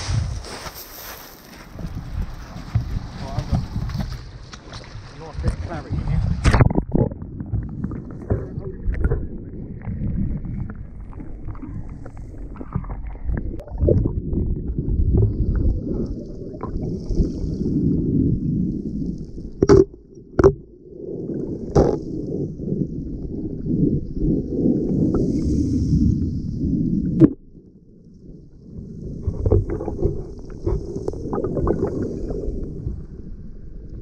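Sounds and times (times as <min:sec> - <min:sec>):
muffled underwater sloshing: 0:01.7 - 0:34.0.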